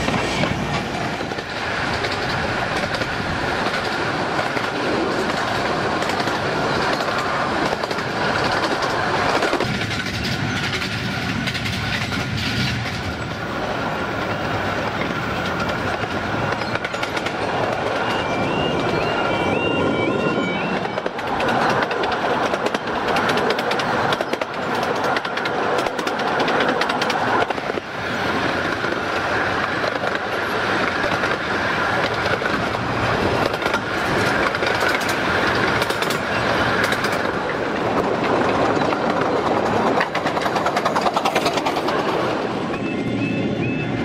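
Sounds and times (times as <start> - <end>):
wheels clicking over rail joints: 0.0 - 13.4, 14.2 - 19.0, 20.8 - 27.9, 28.5 - 42.8
wheel and track noise: 0.0 - 43.5.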